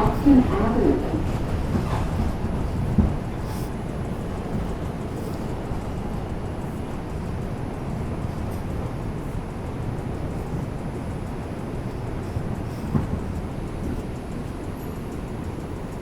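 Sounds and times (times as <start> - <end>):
subway car rumble and hum: 0.0 - 16.0.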